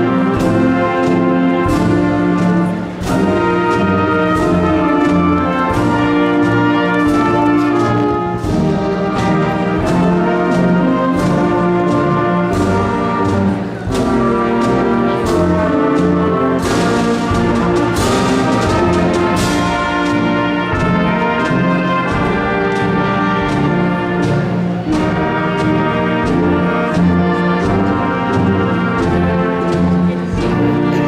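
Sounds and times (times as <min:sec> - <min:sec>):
orchestral brass processional music: 0:00.0 - 0:31.0.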